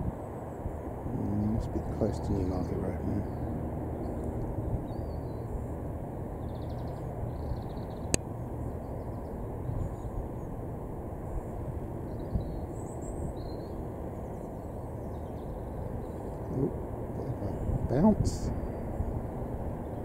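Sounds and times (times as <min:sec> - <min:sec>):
small birds chirping: 0:00.6 - 0:05.7, 0:06.3 - 0:10.6, 0:11.3 - 0:20.0.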